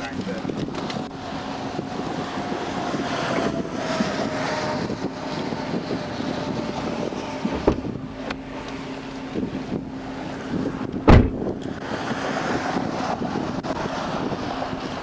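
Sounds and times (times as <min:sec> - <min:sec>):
highway traffic passing: 0:00.0 - 0:15.0
wind on microphone: 0:00.0 - 0:15.0.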